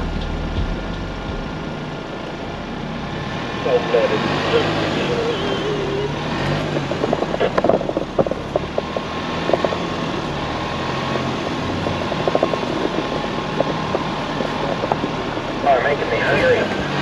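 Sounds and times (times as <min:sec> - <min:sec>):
engine and drivetrain drone: 0:00.0 - 0:17.0.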